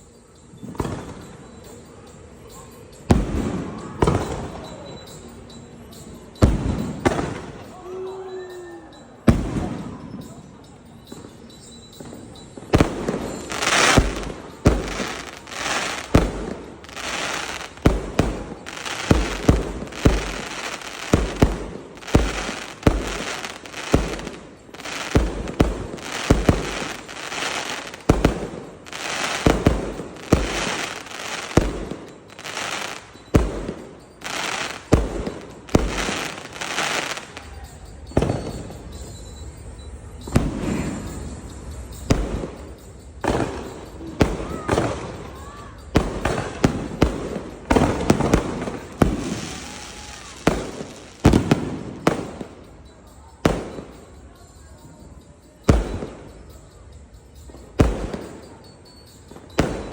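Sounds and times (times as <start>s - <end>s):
fireworks bursting with crackle: 0.0s - 7.9s, 8.5s - 54.3s, 55.2s - 59.9s.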